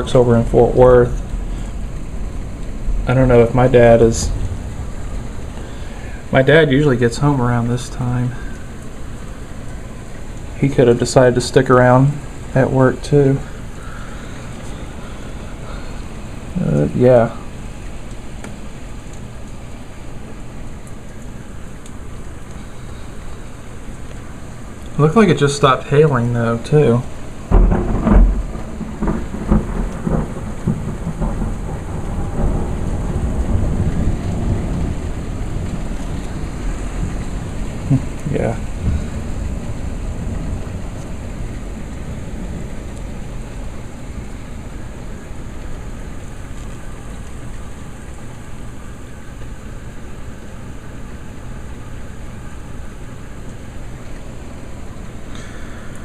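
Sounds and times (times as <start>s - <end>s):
thunder rumbling and cracking: 0.0s - 22.6s, 23.9s - 56.0s
steady rain: 0.0s - 56.0s.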